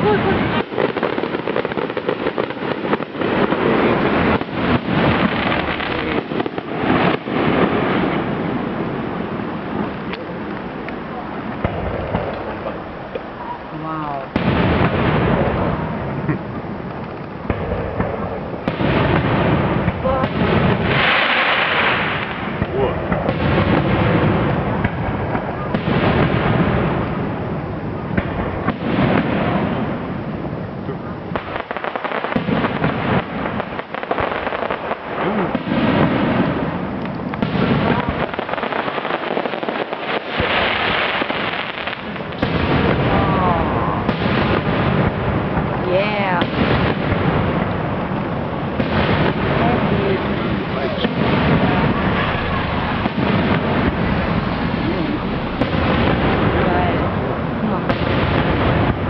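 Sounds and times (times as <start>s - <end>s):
aerial fireworks bangs and crackling: 0.0s - 59.0s.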